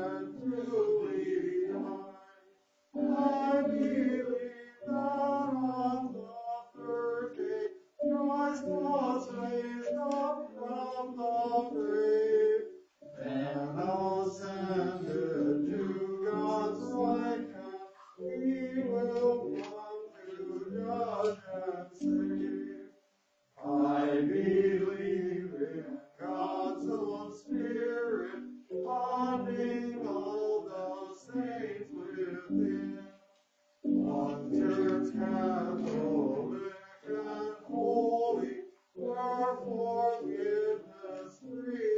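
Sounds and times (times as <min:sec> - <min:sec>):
many voices reciting in unison: 0:00.0 - 0:23.0, 0:23.6 - 0:41.9.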